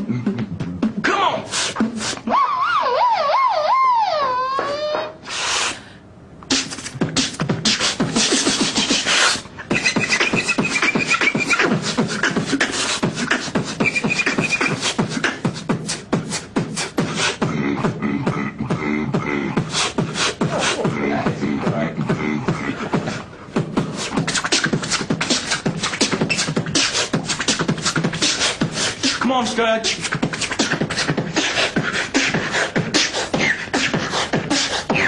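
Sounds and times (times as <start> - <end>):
person beatboxing: 0.0 - 3.6, 6.4 - 35.0.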